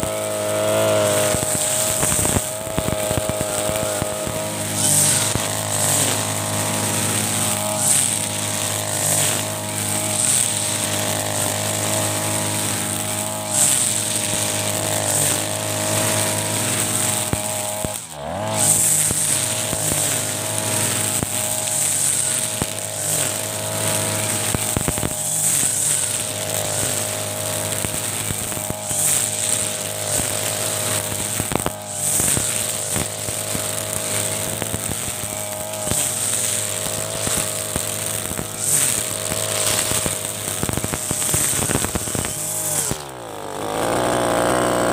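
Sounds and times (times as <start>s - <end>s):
brush cutter cutting grass: 0.0s - 44.9s.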